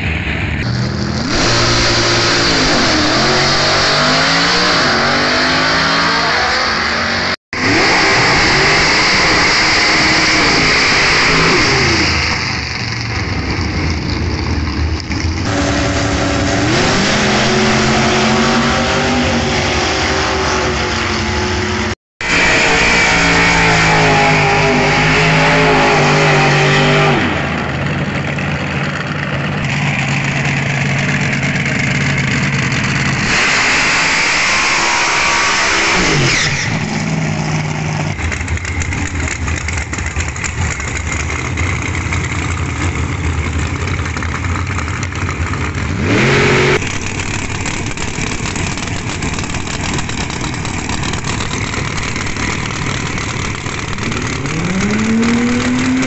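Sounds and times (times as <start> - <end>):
drag car engine revving and idling: 0.0 - 56.0.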